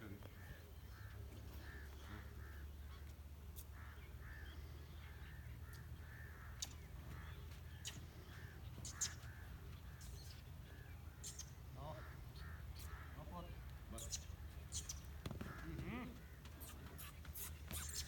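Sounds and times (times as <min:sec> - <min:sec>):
birds crow-like calls: 0:00.0 - 0:18.0.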